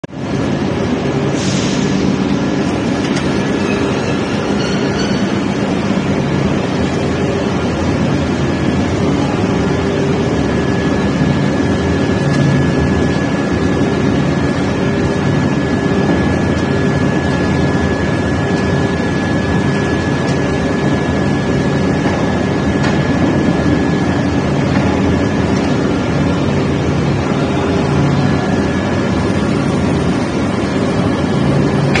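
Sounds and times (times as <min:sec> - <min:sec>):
high machine whine: 0:00.0 - 0:32.0
industrial machine drone: 0:00.0 - 0:32.0.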